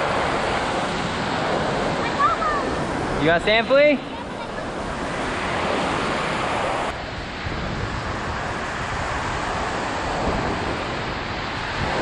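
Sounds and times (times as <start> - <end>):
surf breaking on beach: 0.0 - 12.0
wind on microphone: 0.0 - 12.0.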